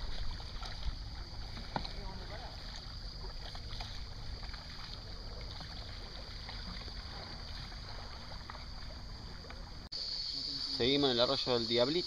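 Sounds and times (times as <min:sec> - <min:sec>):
paddle splashes and drips: 0:00.0 - 0:09.9
insects buzzing: 0:00.0 - 0:12.0.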